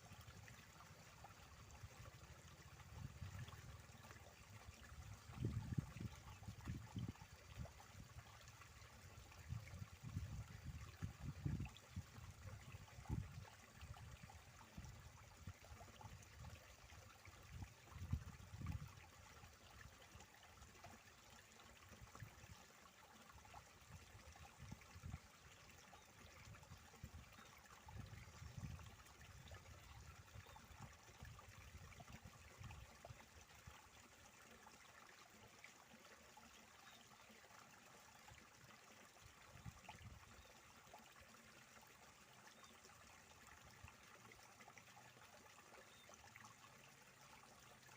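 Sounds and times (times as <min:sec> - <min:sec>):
water flowing in a channel: 0:00.0 - 0:47.9.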